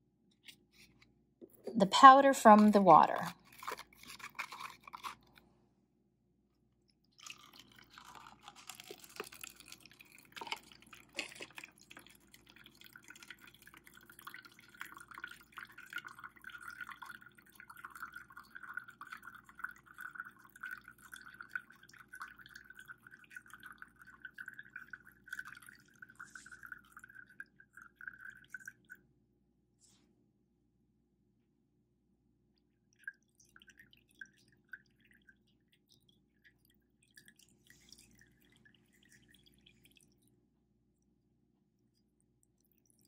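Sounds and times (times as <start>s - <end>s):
water dripping into plastic cup: 1.4s - 5.4s, 6.9s - 29.1s, 32.6s - 40.4s, 41.8s - 43.0s
water pouring into filter: 1.4s - 5.4s, 7.1s - 29.0s, 32.8s - 40.4s, 41.8s - 43.0s.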